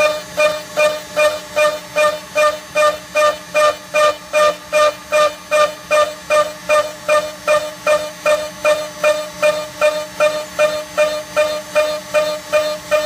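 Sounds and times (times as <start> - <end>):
router cutting whine through steel: 0.0 - 13.0.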